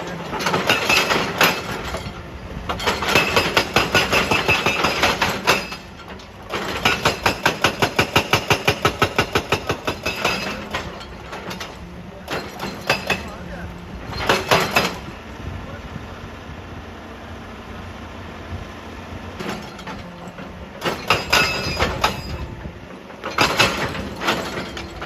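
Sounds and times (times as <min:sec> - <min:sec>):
hydraulic breaker hammering rock: 0:00.0 - 0:15.2, 0:19.4 - 0:25.0.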